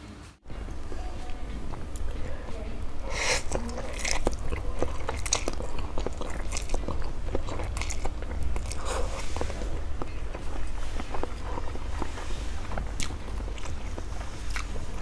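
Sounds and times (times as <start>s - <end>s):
wet chewing and lip smacks: 1.7s - 15.0s
noodles slurped: 3.0s - 15.0s.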